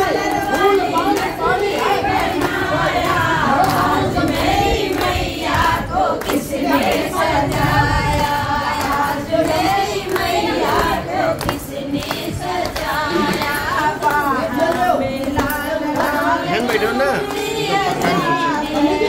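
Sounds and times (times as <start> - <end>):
people talking: 0.0 - 8.3, 9.4 - 19.0
group singing: 0.0 - 19.0.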